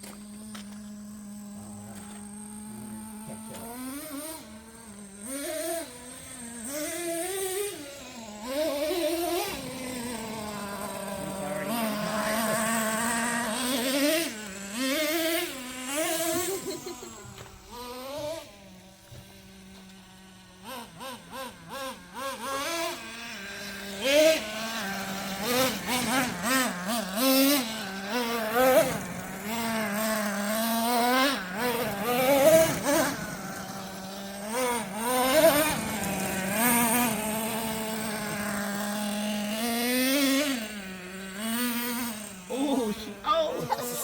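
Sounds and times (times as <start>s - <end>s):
small model engine revving: 0.0s - 44.0s.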